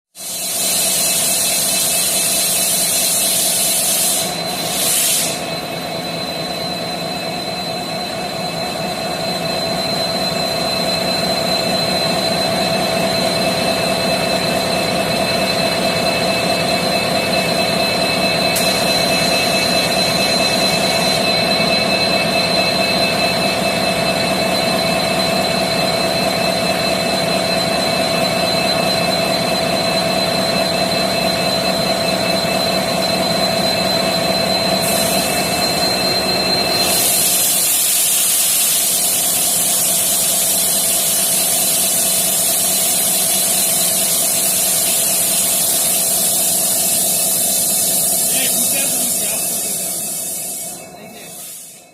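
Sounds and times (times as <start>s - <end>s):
high whine: 0.3s - 51.9s
locomotive diesel engine running: 3.8s - 40.8s, 41.4s - 51.7s.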